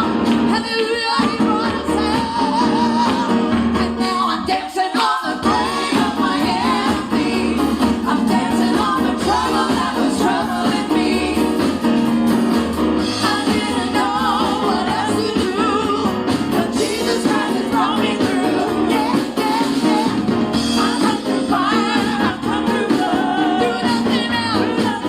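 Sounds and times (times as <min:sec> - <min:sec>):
band accompaniment with bass line: 0:00.0 - 0:04.5, 0:05.4 - 0:25.0
gospel singing: 0:00.0 - 0:25.0.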